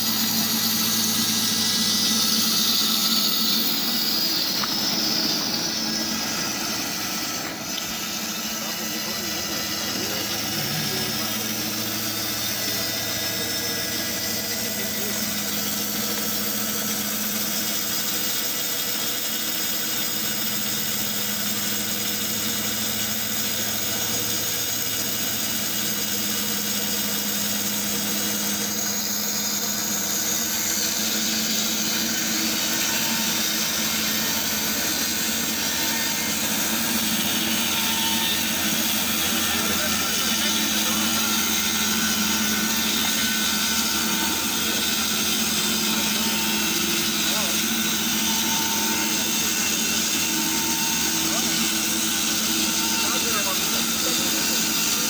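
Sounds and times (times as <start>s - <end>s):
band saw humming: 0.0s - 55.0s.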